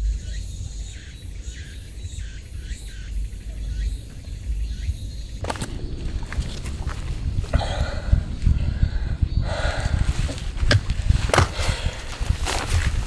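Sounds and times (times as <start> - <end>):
birds chirping: 0.0 - 13.0
wind rumble: 0.0 - 13.0.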